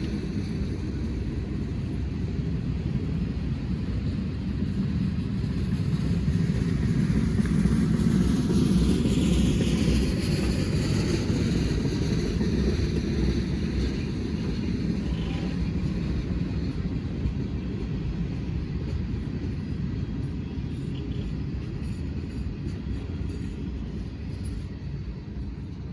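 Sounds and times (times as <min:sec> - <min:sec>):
train rumbling past: 0:00.0 - 0:25.9.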